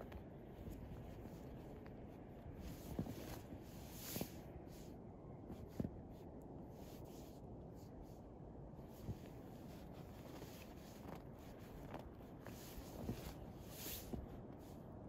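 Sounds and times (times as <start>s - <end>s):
footsteps crunching in snow: 0.0s - 7.4s, 8.8s - 14.9s
steady low rumble: 0.0s - 15.0s.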